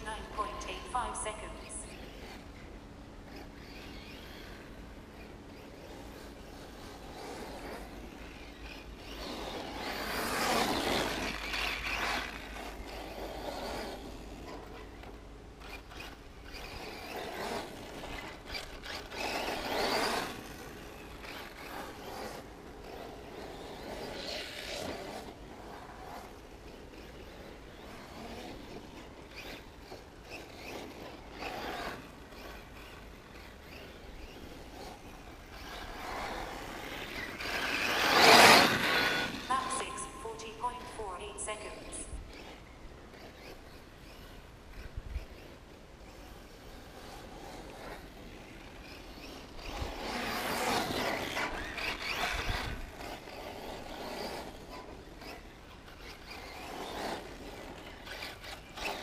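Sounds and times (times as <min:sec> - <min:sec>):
radio-controlled cars passing: 0:00.0 - 0:59.0.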